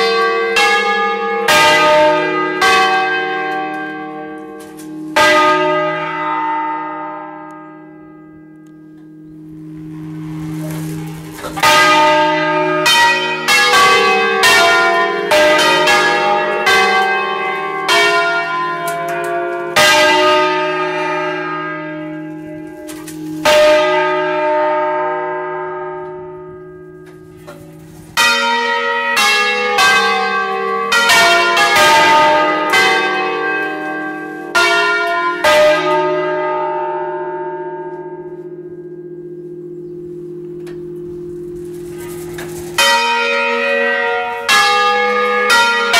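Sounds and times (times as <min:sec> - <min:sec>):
church bells ringing: 0:00.0 - 0:45.9
low lingering bell hum: 0:00.0 - 0:45.9.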